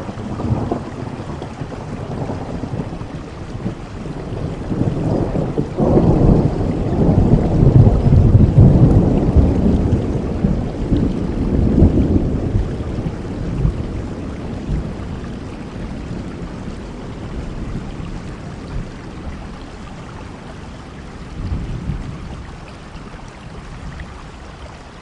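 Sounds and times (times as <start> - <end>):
rolling thunder: 0.0 - 24.1
steady rain: 0.0 - 25.0.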